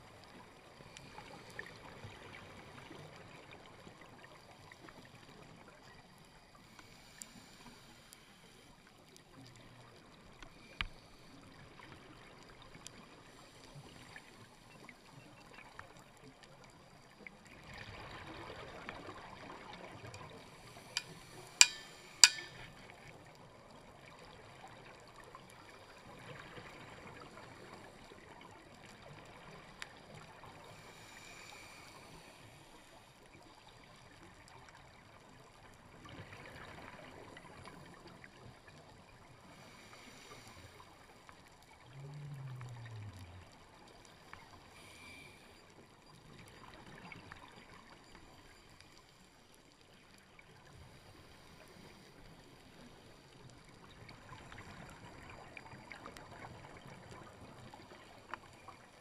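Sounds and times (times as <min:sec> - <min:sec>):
faint underwater hiss: 0:00.0 - 0:59.0.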